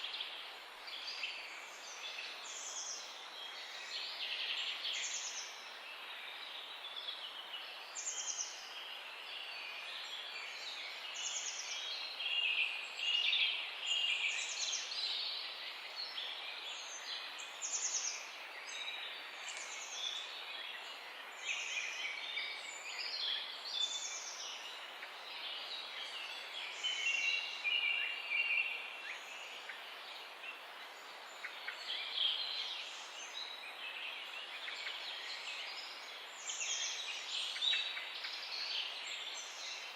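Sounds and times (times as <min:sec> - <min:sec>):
background hiss: 0:00.0 - 0:39.9
songbirds singing: 0:00.0 - 0:39.9.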